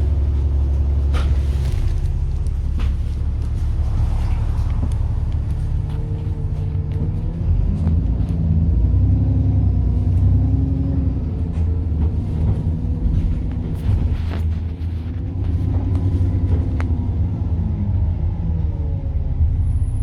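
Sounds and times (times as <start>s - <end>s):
diesel bus engine pulling: 0.0s - 20.0s.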